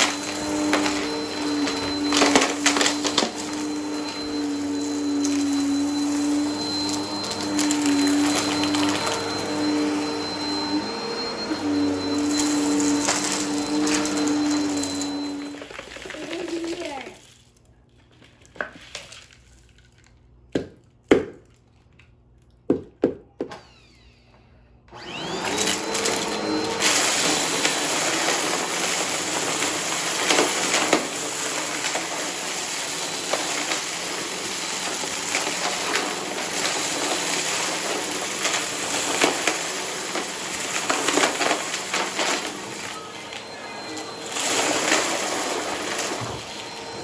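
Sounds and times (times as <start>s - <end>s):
vacuum motor winding down: 0.0s - 16.8s, 23.5s - 47.0s
vacuum cleaner running: 0.0s - 17.2s, 23.4s - 47.0s
debris crackling in vacuum: 0.0s - 17.4s, 25.3s - 47.0s.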